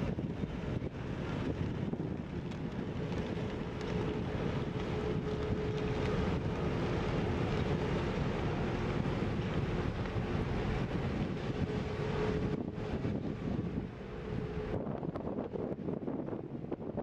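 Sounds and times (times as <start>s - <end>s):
wind buffeting microphone: 0.0s - 17.0s
ship diesel engine rumble: 0.1s - 16.7s.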